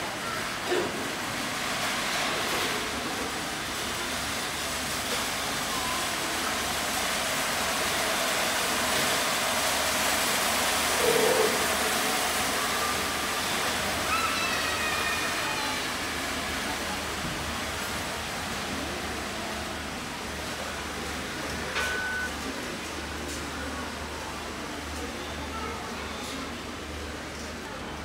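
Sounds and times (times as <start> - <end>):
crowd noise: 0.0 - 28.0
ventilation hiss: 0.0 - 28.0.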